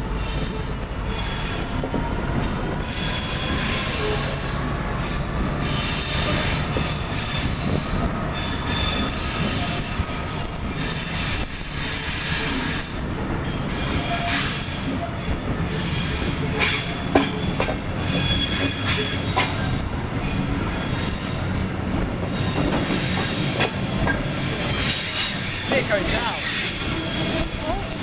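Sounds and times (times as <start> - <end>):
train wheels rumbling on rail: 0.0 - 28.0
high wheel squeal: 2.8 - 28.0.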